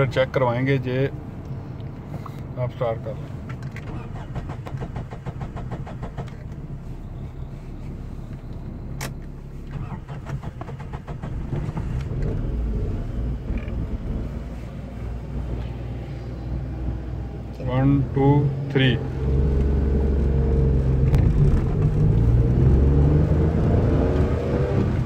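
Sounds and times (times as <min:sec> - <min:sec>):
car engine accelerating: 0:03.5 - 0:25.0.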